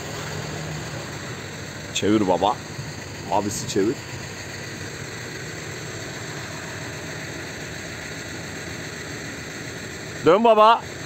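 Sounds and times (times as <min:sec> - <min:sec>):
engine humming with hiss: 0:00.0 - 0:11.0.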